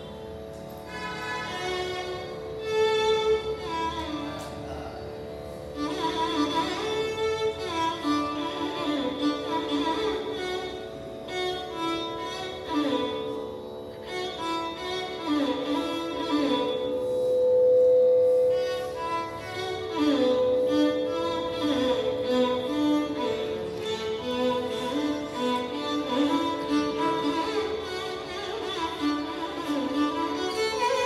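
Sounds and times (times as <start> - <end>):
electronic tanpura drone: 0.0 - 31.0
violin playing ornamented phrases: 0.0 - 31.0.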